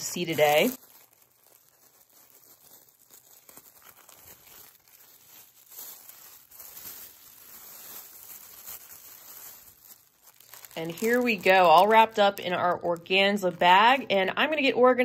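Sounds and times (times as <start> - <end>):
tissue paper crinkling: 0.0 - 14.7.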